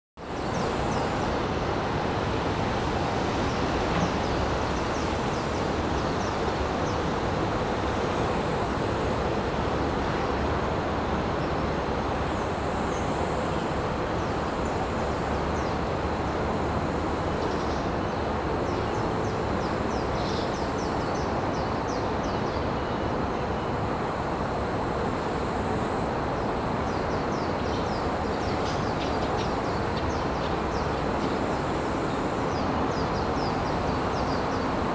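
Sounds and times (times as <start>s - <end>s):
distant traffic hum: 0.2s - 34.9s.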